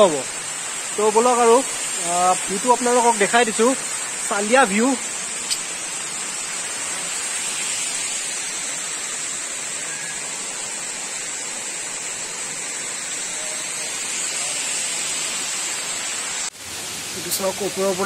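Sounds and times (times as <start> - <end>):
high hiss: 0.0 - 18.0
waterfall rushing into pool: 0.0 - 18.0.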